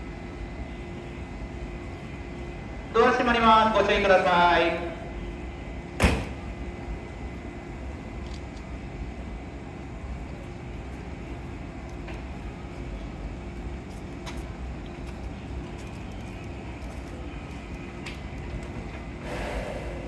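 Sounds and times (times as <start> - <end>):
electric train humming: 0.0 - 20.0.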